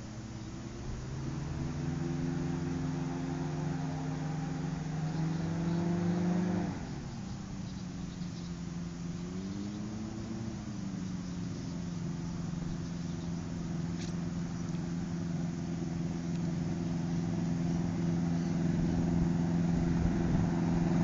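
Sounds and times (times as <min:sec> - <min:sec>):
microlight engine running: 0:00.0 - 0:21.0.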